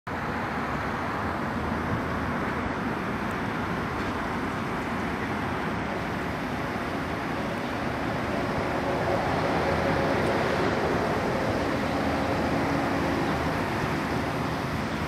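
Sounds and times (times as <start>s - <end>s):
outdoor rumble and hiss: 0.1s - 15.0s.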